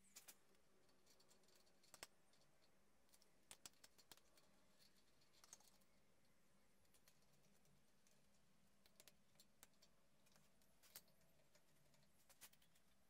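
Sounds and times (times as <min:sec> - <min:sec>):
faint clicks of metal parts: 0:00.0 - 0:06.0, 0:06.8 - 0:13.0.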